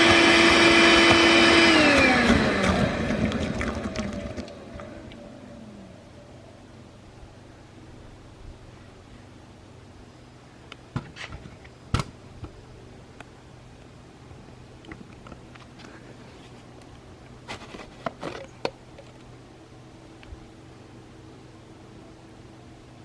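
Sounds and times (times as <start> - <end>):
faint steady hum: 2.7 - 23.0.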